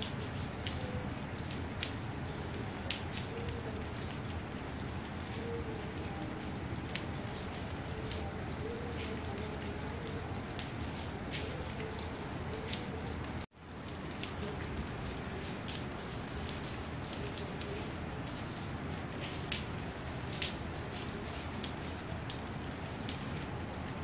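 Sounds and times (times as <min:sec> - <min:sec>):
raindrops tapping: 0:00.0 - 0:24.0
steady rain: 0:00.0 - 0:24.0.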